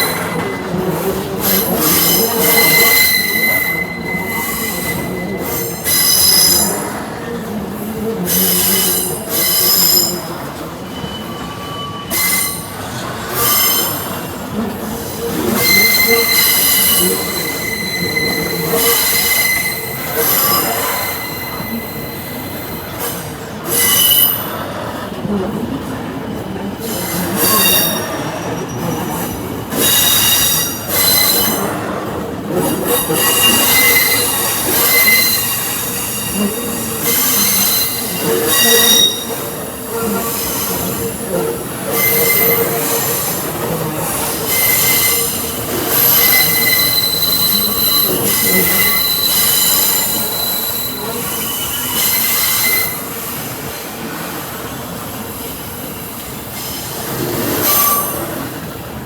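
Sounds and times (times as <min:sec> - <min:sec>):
train wheels squealing: 0:00.0 - 0:07.1, 0:08.2 - 0:24.9, 0:26.3 - 0:53.8, 0:54.4 - 0:58.7
freight train rumble: 0:00.0 - 0:59.0.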